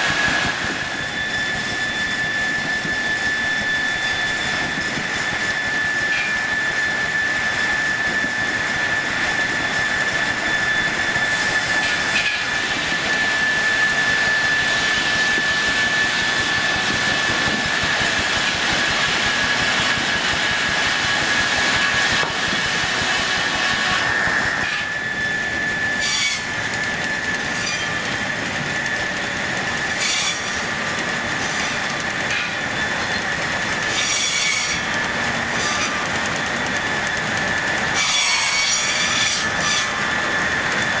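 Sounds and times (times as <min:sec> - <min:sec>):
machinery rumble: 0:00.0 - 0:34.0, 0:34.7 - 0:38.5
high machine whine: 0:00.0 - 0:41.0.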